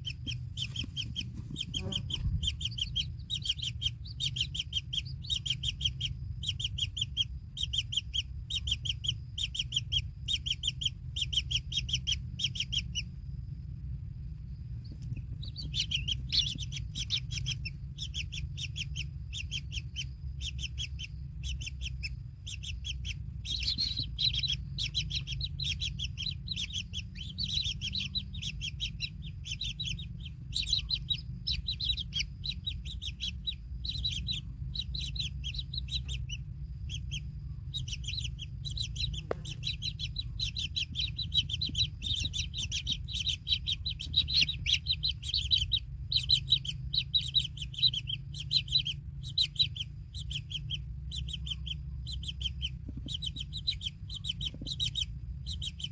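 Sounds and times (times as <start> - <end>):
chicks buzzy begging chirps: 0.0 - 55.9
low rumble: 0.0 - 55.9.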